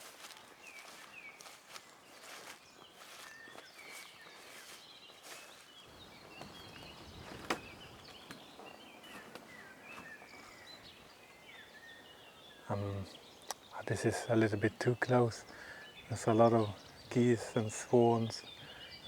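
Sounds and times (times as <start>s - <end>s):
birds chirping faintly: 0.1s - 19.0s.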